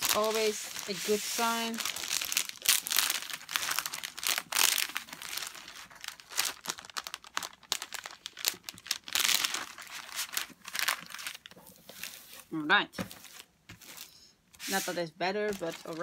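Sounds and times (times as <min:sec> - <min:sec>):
plastic film crinkling: 0:00.0 - 0:16.0.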